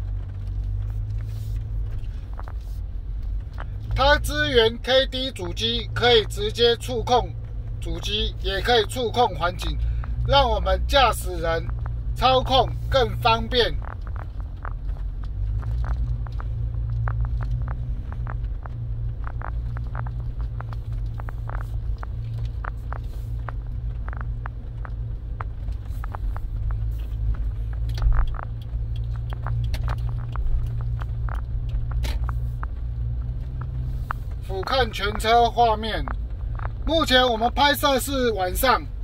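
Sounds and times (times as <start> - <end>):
car road and engine rumble: 0.0 - 39.0
light clicks and ticks: 0.0 - 39.0.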